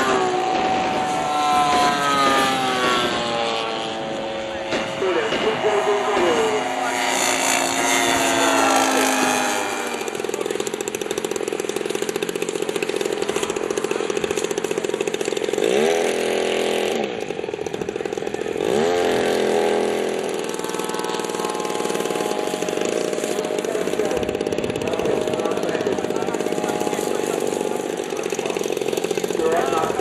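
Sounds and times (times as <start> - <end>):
model aircraft engines buzzing: 0.0 - 30.0.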